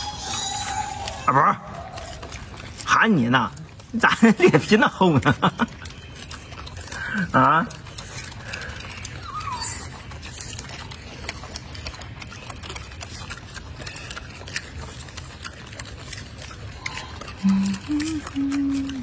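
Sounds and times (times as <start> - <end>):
monkeys chewing crunchily: 0.0 - 19.0.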